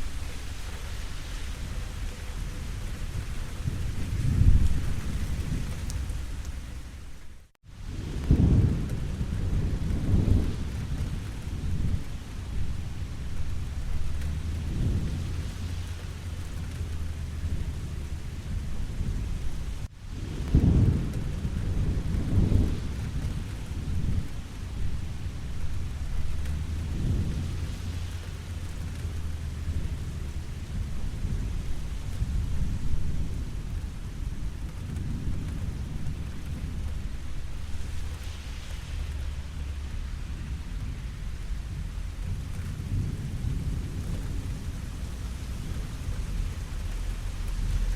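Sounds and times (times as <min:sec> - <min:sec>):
rolling thunder rumbles: 0:00.0 - 0:47.9
steady rain falling: 0:00.0 - 0:47.9.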